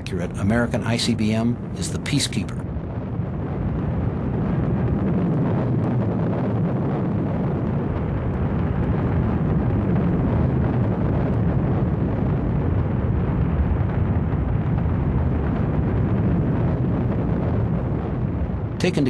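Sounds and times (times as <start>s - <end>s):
rocket motor deep rumble: 0.0s - 19.0s.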